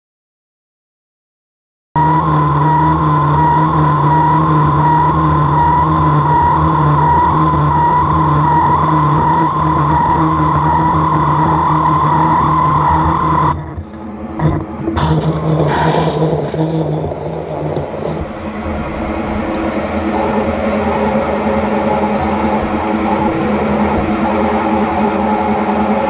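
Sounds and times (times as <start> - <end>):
lathe running: 2.0 - 26.0.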